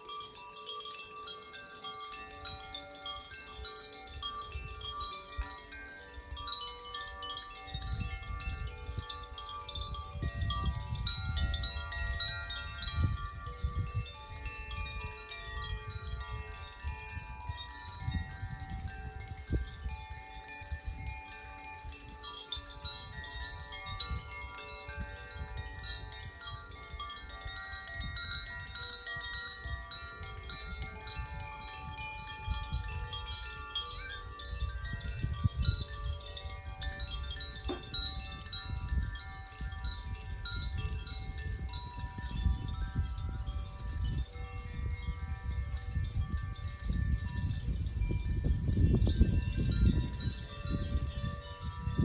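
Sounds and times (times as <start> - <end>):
wind chimes ringing: 0.0 - 52.0.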